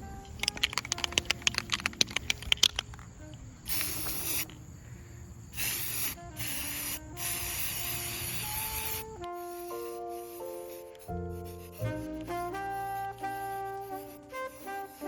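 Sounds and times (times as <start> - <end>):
spray can rattling: 0.0 - 3.1, 3.7 - 4.6, 5.6 - 15.0
spray paint hissing: 0.1 - 3.0, 3.6 - 4.6, 5.5 - 15.0.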